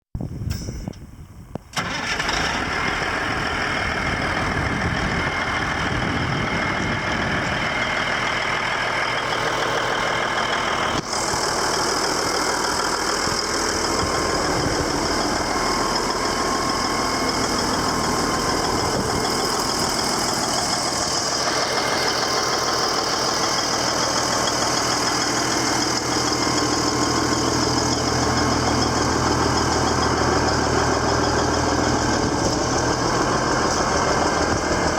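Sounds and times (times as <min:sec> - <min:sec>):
diesel truck engine idling: 0:01.7 - 0:34.9.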